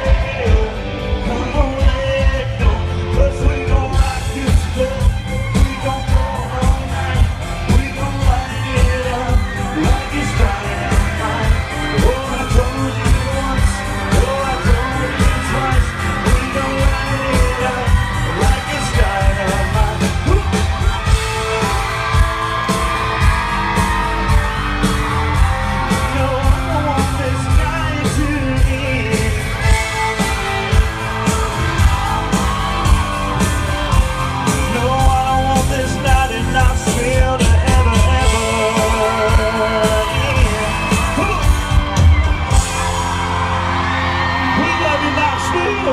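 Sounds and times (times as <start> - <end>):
person singing lead vocal: 0.0 - 41.7
live country band music: 0.0 - 45.9.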